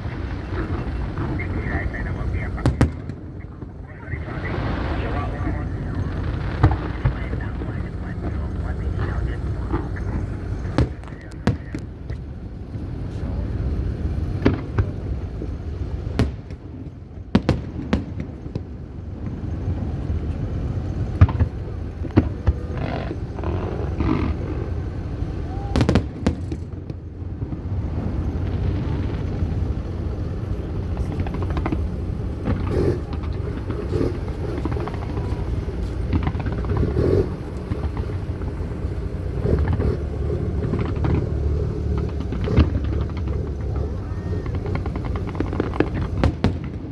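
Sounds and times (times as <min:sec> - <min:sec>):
fireworks bangs and cracks: 0:00.0 - 0:46.9
low rumble: 0:00.0 - 0:46.9.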